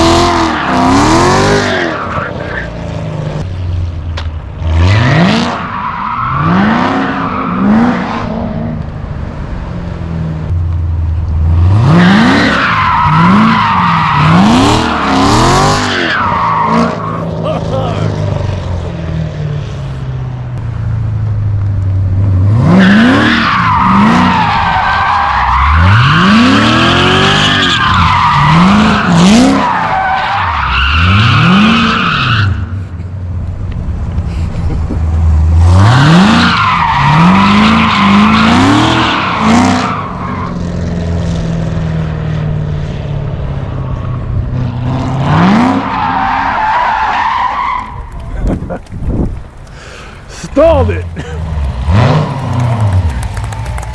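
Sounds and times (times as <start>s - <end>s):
truck engine idling and revving: 0.0s - 53.9s.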